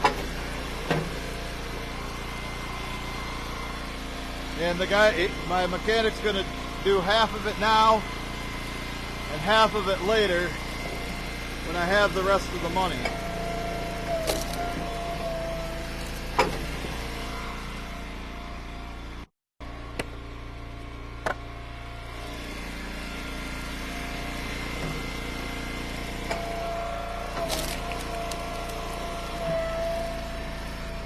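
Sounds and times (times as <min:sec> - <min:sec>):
gas engine idling: 0:00.0 - 0:19.1, 0:19.7 - 0:31.0.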